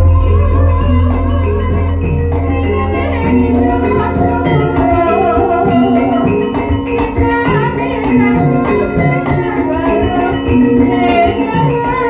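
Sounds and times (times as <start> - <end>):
gongs and metallophones: 0.0 - 12.0
hand drum strokes: 0.0 - 12.0
person singing: 0.0 - 12.0.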